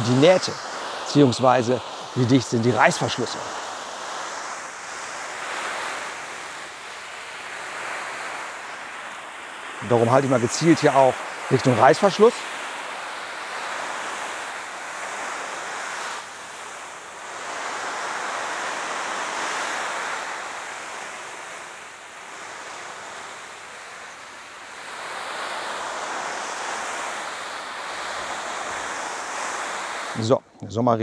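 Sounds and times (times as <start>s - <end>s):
hose spraying water on tent: 0.0s - 30.3s.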